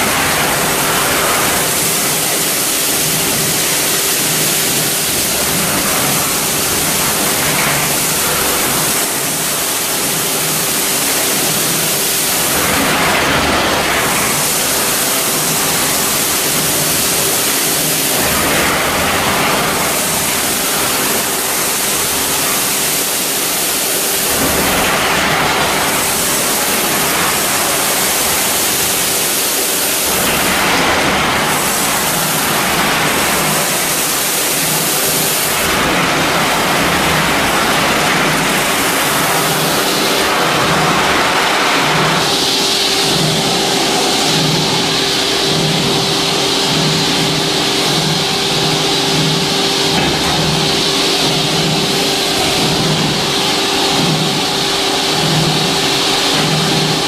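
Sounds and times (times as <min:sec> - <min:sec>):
vacuum cleaner sucking air: 0:00.0 - 0:57.0.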